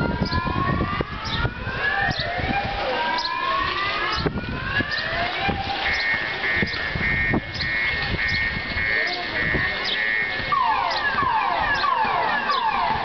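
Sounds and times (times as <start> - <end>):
wind rumble on microphone: 0.0 - 11.7
electronic alarm siren whooping: 0.0 - 13.0.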